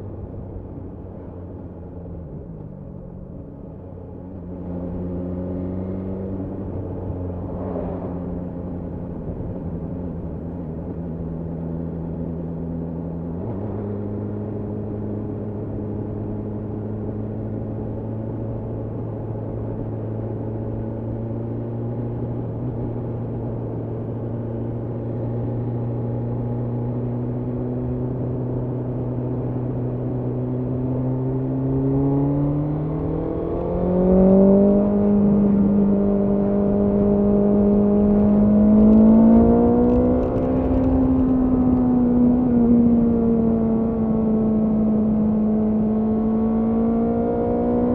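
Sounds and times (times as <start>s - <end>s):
motorcycle engine accelerating: 3.8s - 47.9s.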